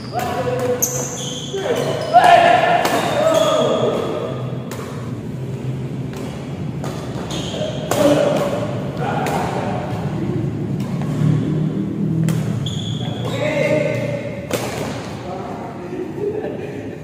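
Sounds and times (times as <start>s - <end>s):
rackets striking shuttlecock: 0.0s - 11.3s, 12.1s - 15.2s.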